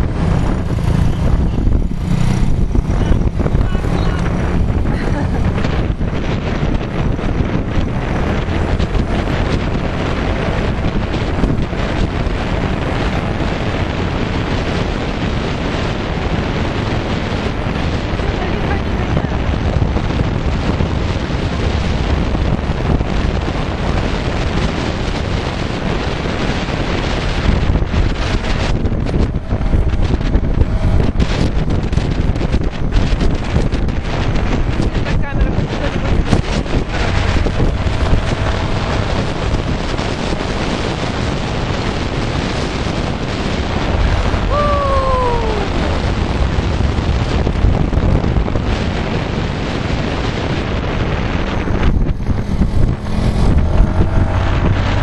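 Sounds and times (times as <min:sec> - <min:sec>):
deep rumble: 0:00.0 - 0:55.0
scooter engine and road noise: 0:00.0 - 0:55.0
wind buffeting microphone: 0:00.0 - 0:55.0.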